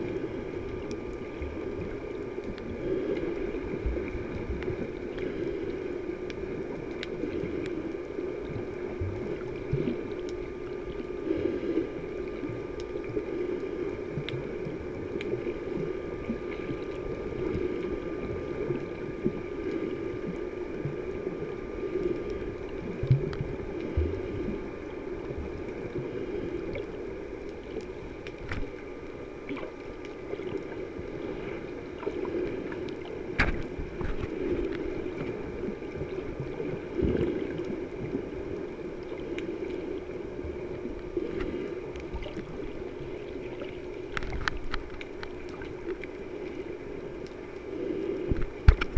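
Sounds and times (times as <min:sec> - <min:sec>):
dull underwater rush: 0:00.0 - 0:48.9
faint constant tone: 0:00.0 - 0:48.9.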